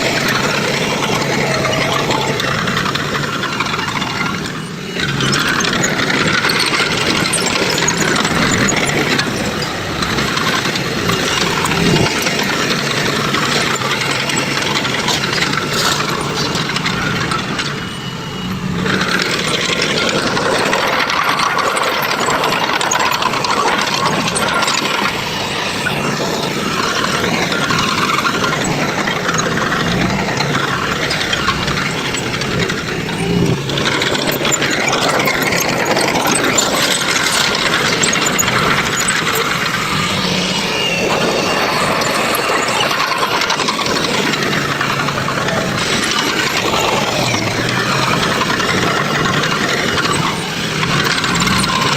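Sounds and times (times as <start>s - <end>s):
heavy machinery engine rattling: 0.0s - 51.9s.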